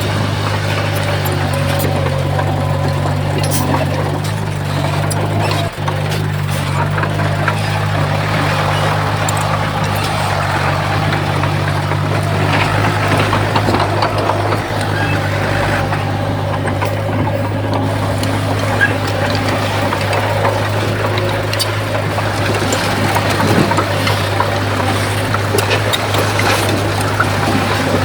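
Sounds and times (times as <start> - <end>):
bulldozer diesel engine running: 0.0 - 28.0
tracks and blade scraping soil: 0.0 - 28.0.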